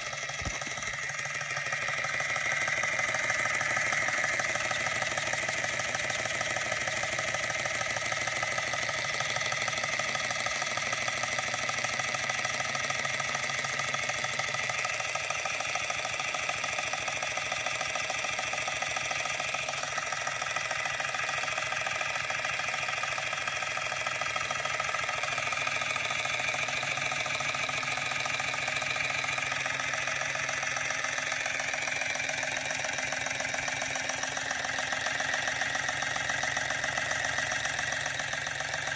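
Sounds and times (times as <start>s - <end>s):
toy steam engine chuffing: 0.0s - 38.9s.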